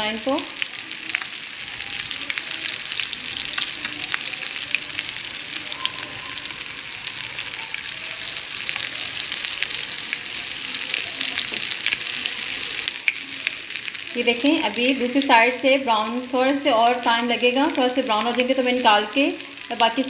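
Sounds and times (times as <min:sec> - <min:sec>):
food sizzling and crackling in oil: 0:00.0 - 0:20.0.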